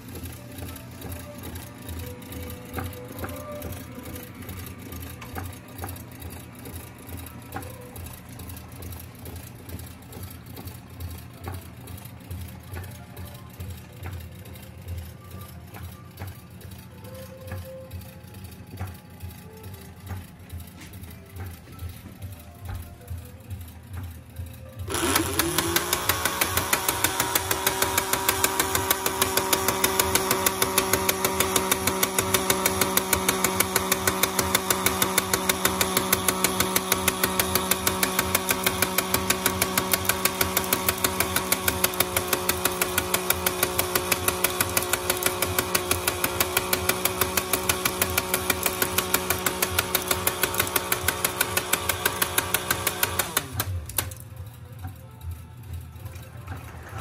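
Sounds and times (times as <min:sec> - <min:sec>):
electric motor hum: 0:00.0 - 0:54.2
fast belt drive clatter: 0:00.0 - 0:57.0.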